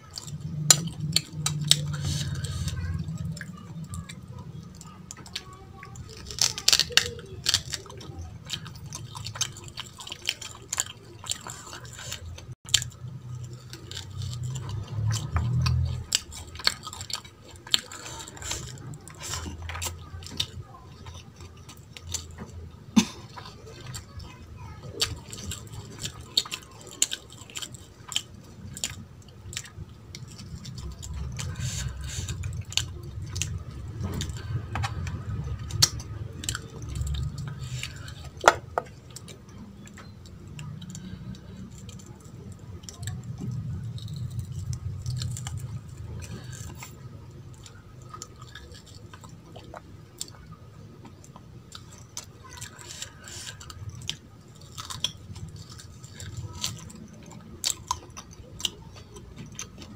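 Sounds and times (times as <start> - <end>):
chewing food: 0.0 - 59.9
wet squishes of food mixed by hand: 0.0 - 59.9.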